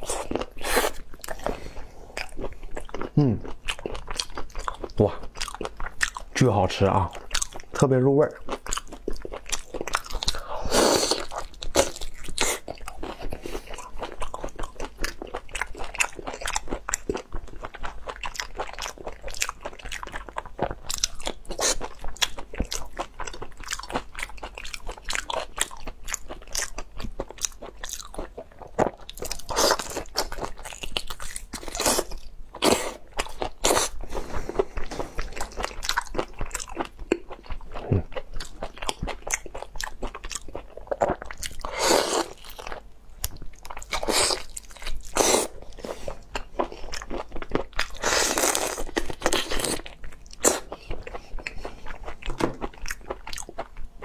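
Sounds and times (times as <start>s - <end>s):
chewing crunchy prawn shells: 0.0s - 54.0s.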